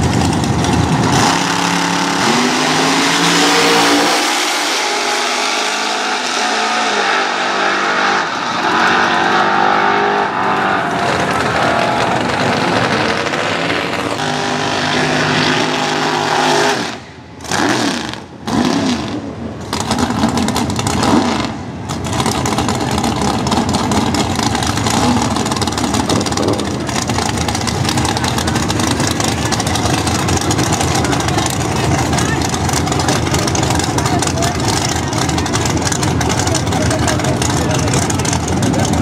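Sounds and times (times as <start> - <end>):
drag car engine at high revs: 0.0 - 39.0
drag car engine revving in burnout: 0.0 - 39.0.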